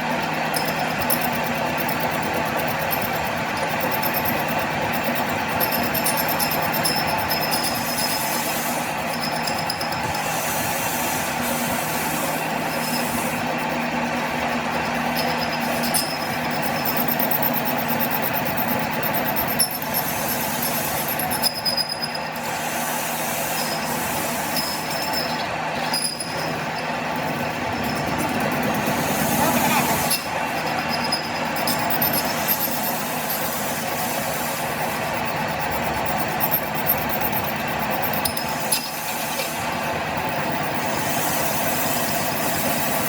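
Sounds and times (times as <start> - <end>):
high metallic whine: 0.0 - 43.0
machinery running on metal: 0.0 - 43.0.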